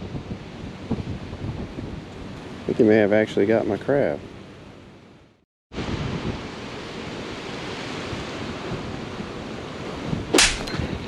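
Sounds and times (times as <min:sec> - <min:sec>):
wind buffeting microphone: 0:00.0 - 0:04.3, 0:05.8 - 0:11.0.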